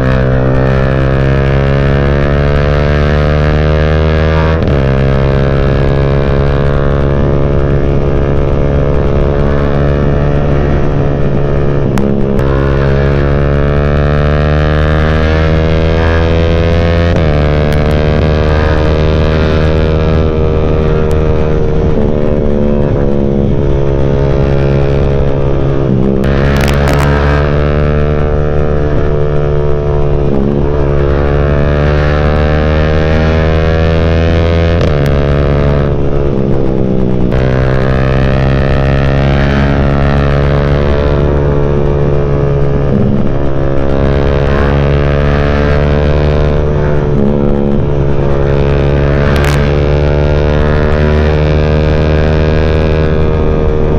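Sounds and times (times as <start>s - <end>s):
motorcycle engine revving through gears: 0.0s - 53.9s.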